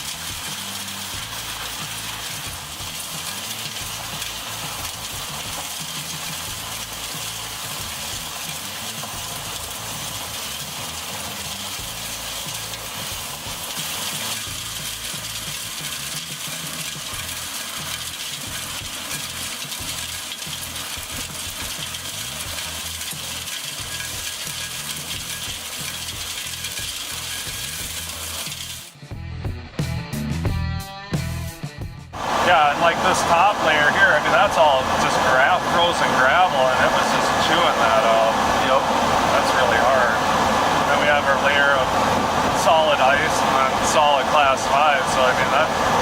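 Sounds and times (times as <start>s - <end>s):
water jet blasting gravel: 0.0s - 29.0s, 32.2s - 46.0s.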